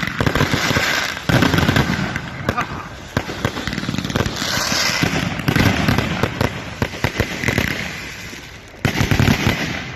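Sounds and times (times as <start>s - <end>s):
fireworks bursts and bangs: 0.0s - 9.9s
fireworks high hissing: 0.0s - 9.9s.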